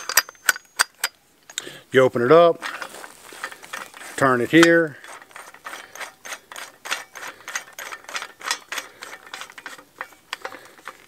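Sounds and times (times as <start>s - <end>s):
small metal clicks: 0.0s - 1.7s, 2.6s - 11.0s.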